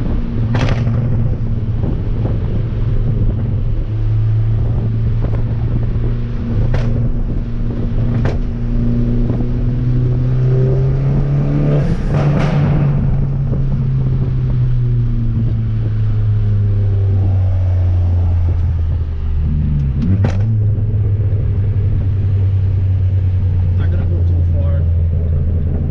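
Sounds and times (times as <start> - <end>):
car engine pulling: 0.0 - 25.9.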